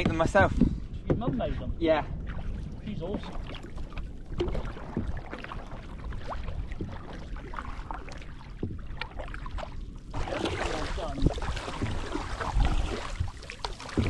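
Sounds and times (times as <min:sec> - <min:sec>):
water splashing against canoe: 0:00.0 - 0:14.0
wind rumble on microphone: 0:00.0 - 0:14.0.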